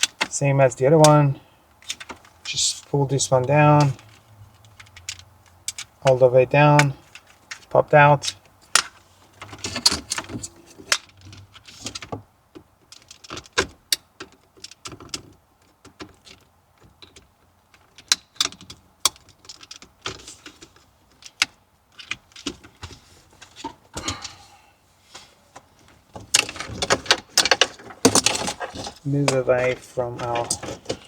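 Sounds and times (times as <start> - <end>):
wires rustling: 0.0 - 31.0.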